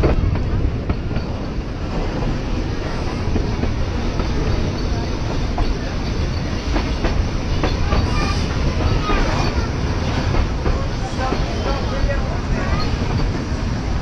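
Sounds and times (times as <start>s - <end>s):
wheels clicking over rail joints: 0.0s - 13.8s
train carriages rumbling: 0.0s - 14.0s.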